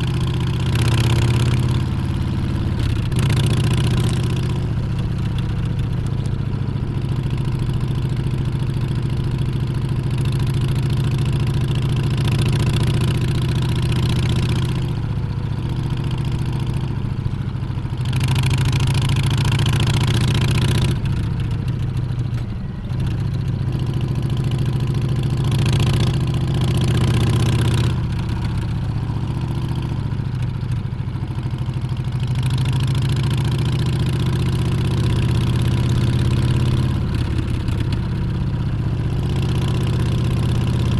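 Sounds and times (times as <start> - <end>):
motorcycle engine while riding: 0.0 - 40.9.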